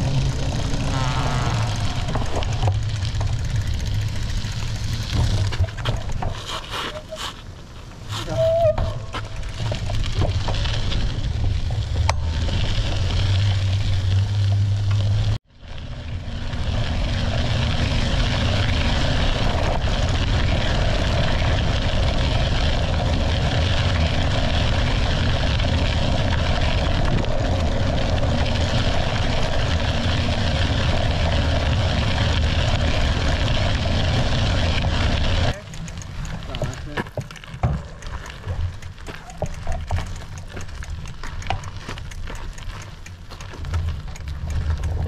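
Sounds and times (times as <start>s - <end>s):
tyre rumble on dirt path: 0.0s - 45.0s.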